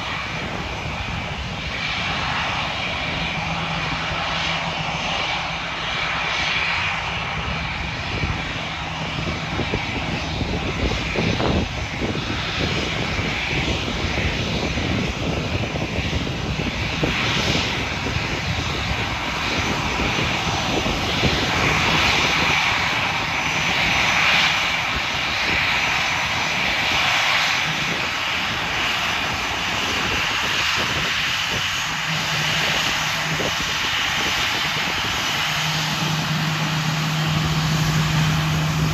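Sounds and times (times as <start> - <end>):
jet engine whine and rumble: 0.0 - 38.9.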